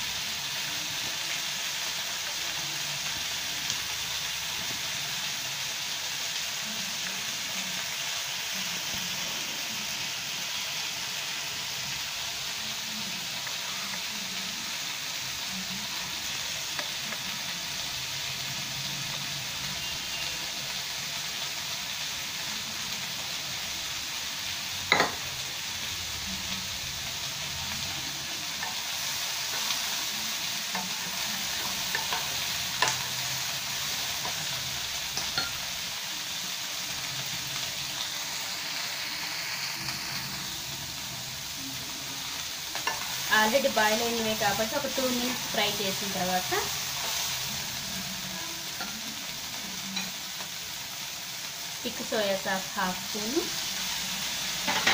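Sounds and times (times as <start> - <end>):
stir-fry sizzling in pan: 0.0 - 54.9.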